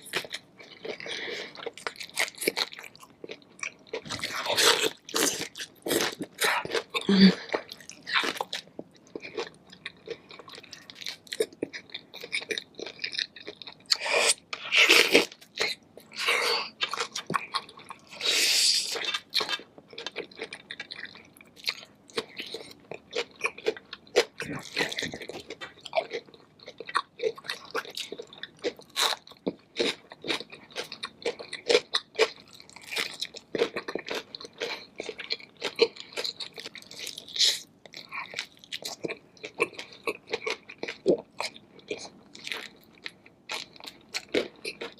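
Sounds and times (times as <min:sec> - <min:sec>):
chewing crunchy food: 0:00.0 - 0:44.9.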